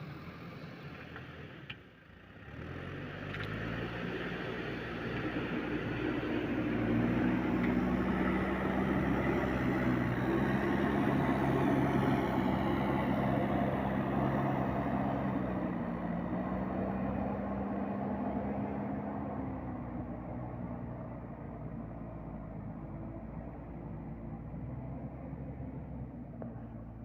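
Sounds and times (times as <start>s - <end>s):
backhoe diesel engine running: 0.0s - 27.0s.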